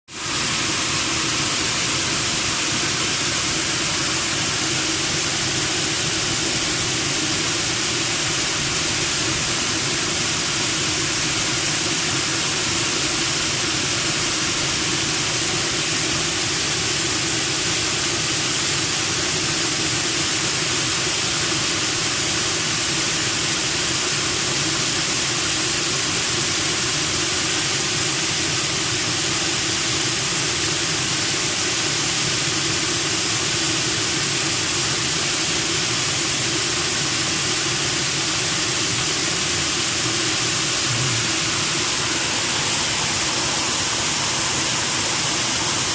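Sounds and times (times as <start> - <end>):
waterfall rushing over rocks: 0.1 - 45.9.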